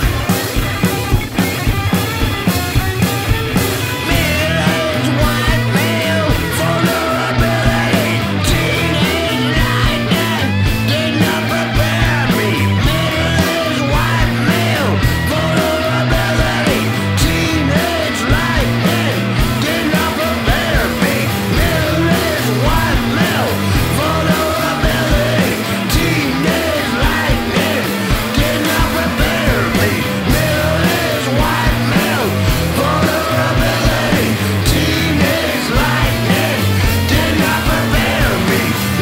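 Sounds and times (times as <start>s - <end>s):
singer shouting lyrics: 0.0s - 0.8s, 3.8s - 39.0s
drum kit with cymbals: 0.0s - 39.0s
electric guitars: 0.0s - 39.0s.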